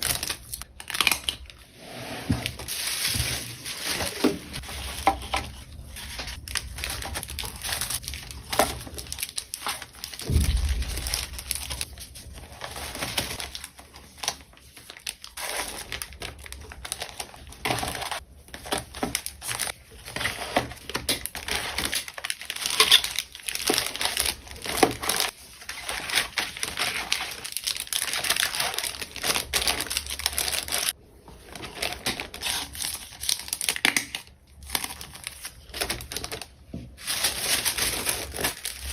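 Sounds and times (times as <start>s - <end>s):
plastic packaging crinkling: 0.0s - 1.7s, 2.5s - 38.9s.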